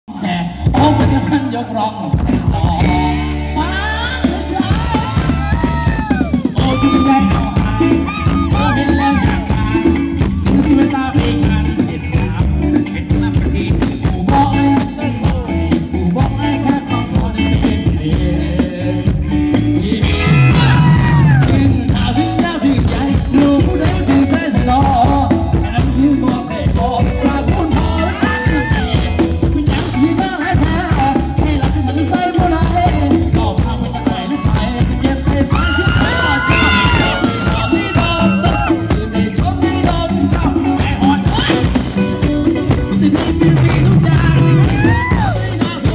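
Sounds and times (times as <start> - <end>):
live band dance music: 0.1 - 45.9
person singing: 0.1 - 45.9
steady drum beat: 0.3 - 45.9.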